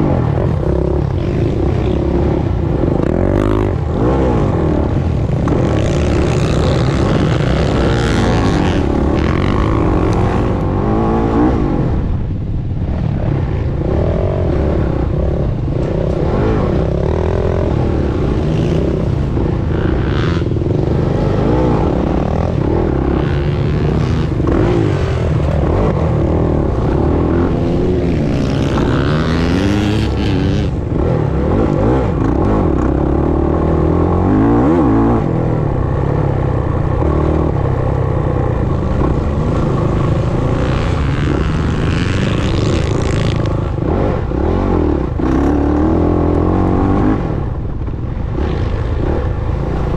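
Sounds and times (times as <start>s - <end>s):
dirt bike engine revving: 0.0s - 12.2s, 13.3s - 49.9s.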